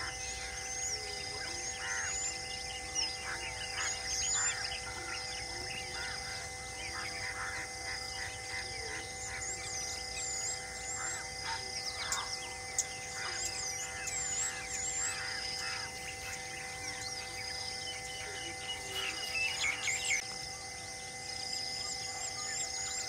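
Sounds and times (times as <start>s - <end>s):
birds chirping: 0.0s - 23.0s
sustained tones: 0.0s - 23.0s.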